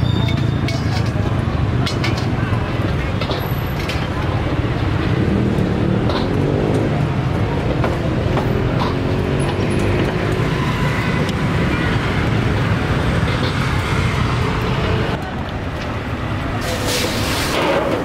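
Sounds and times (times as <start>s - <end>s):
faint voices talking: 0.0s - 16.5s
road traffic rumble: 0.0s - 18.0s.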